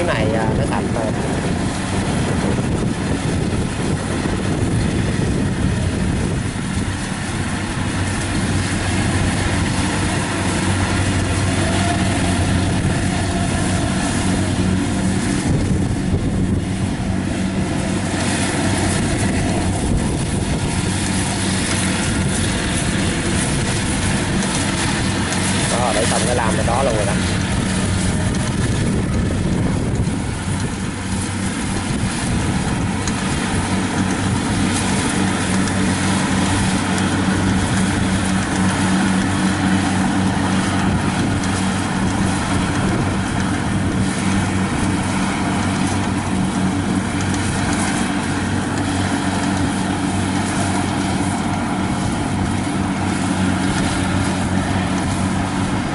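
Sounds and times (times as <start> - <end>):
combine harvester diesel engine hum: 0.0 - 55.9.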